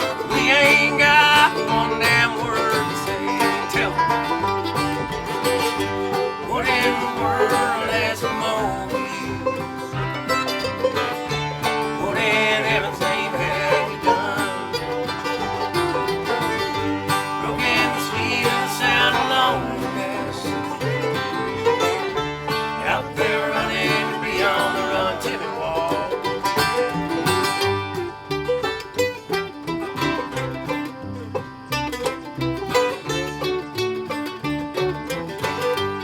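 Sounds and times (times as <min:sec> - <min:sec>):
banjo picking: 0:00.0 - 0:36.0
guitar picking: 0:00.0 - 0:36.0.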